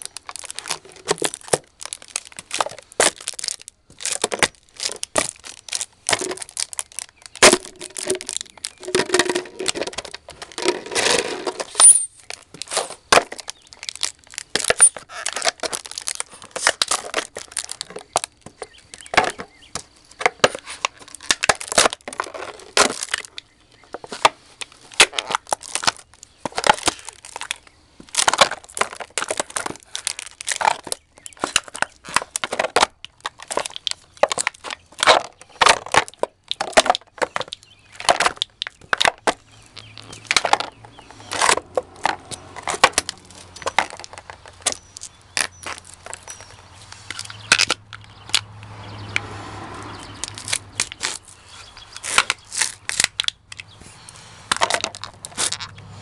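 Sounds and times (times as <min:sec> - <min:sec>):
plastic bottles crushed underfoot: 0:00.0 - 0:48.4, 0:50.2 - 0:55.8.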